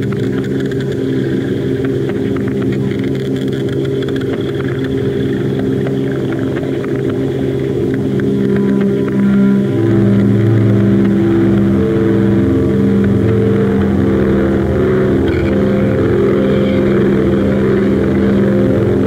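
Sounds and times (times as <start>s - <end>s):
droning experimental music: 0.0s - 19.0s
tape hiss: 0.0s - 19.0s.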